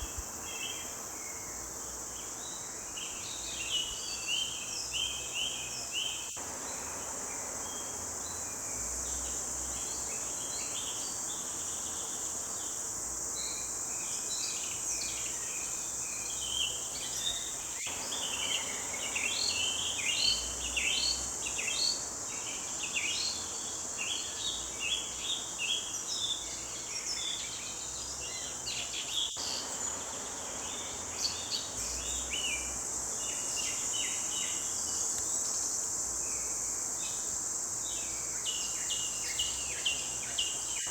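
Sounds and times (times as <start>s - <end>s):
high insect buzz: 0.0s - 40.9s.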